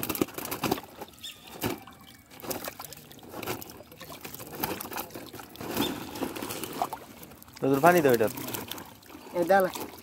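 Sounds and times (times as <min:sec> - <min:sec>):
fish splashing in shallow water: 0:00.0 - 0:10.0
trickling water: 0:00.0 - 0:10.0.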